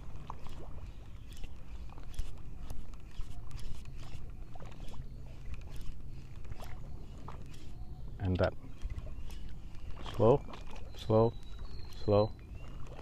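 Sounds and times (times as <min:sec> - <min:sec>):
sea water along seawall: 0:00.0 - 0:13.0.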